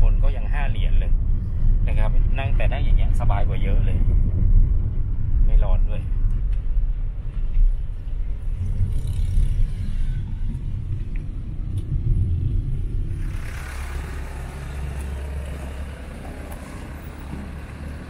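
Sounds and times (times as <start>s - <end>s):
low hum: 0.0s - 18.0s
road rumble inside car: 0.0s - 18.0s.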